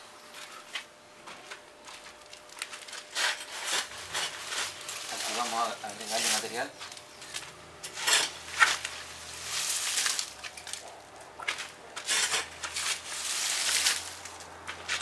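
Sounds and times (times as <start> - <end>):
garden fork scraping compost: 2.7 - 15.0.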